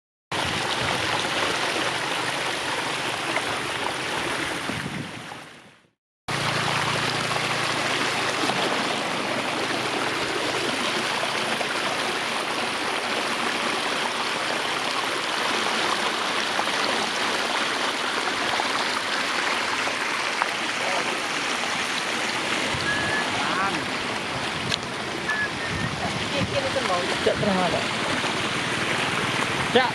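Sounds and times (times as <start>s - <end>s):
water rushing: 0.3s - 5.7s, 6.3s - 29.9s.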